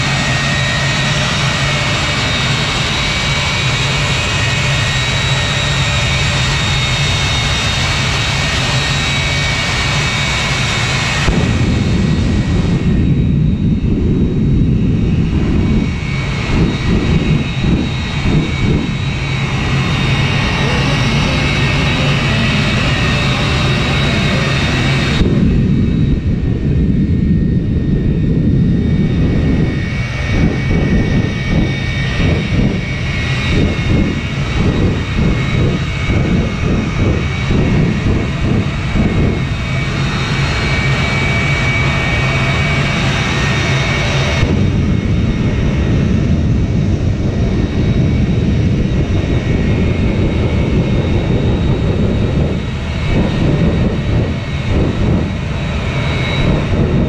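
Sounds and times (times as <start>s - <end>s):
afterburner roar: 0.0s - 57.0s
jet engine turbine whine: 0.0s - 57.0s.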